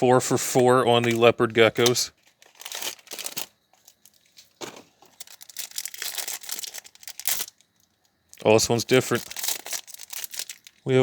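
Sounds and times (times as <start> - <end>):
candy wrapper crinkling: 0.9 - 10.9.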